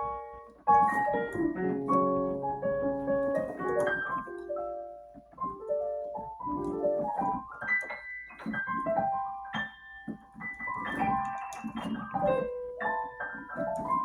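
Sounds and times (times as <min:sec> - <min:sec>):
piano-like keyboard melody: 0:00.0 - 0:14.0.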